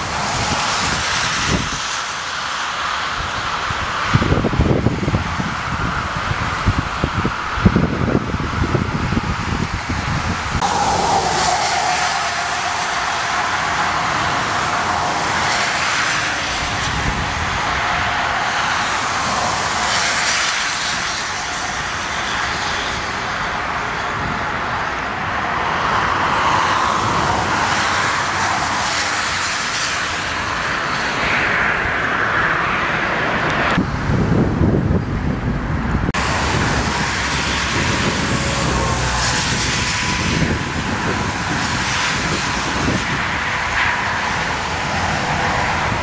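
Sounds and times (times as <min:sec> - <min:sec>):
jet engine whine: 0:00.0 - 0:46.0
loud rushing noise: 0:00.0 - 0:46.0.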